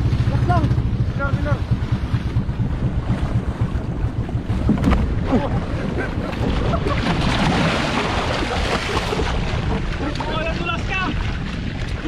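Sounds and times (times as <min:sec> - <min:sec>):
sea water washing: 0:00.0 - 0:12.0
wind buffeting microphone: 0:00.0 - 0:12.0.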